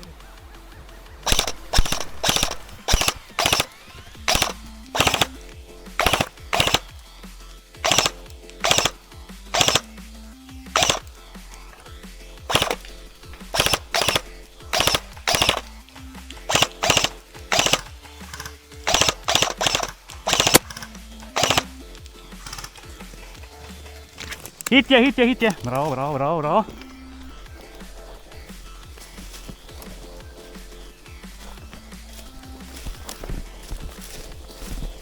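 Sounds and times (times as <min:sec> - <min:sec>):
background music with steady beat: 0:00.0 - 0:35.0
airsoft gun bursts: 0:01.2 - 0:35.0.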